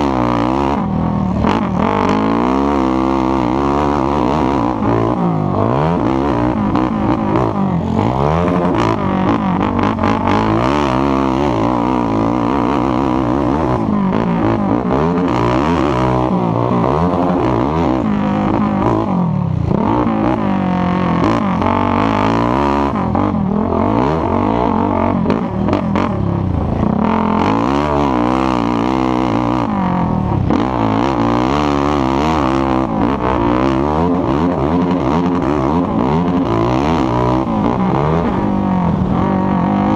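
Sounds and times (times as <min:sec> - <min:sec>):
atv engines racing: 0:00.0 - 0:39.9.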